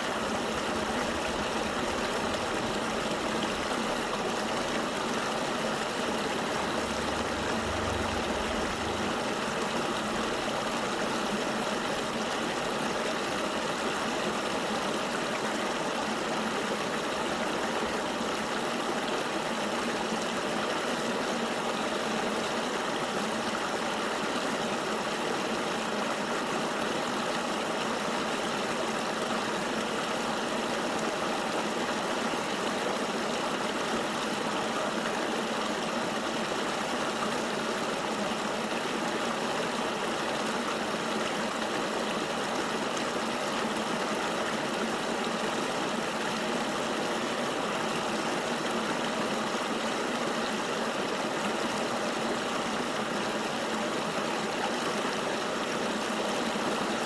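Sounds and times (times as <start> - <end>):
forest river rushing: 0.0 - 57.0.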